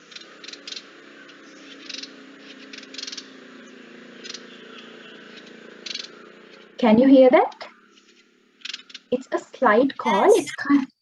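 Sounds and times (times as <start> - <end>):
dry bird call notes: 0.0 - 10.3.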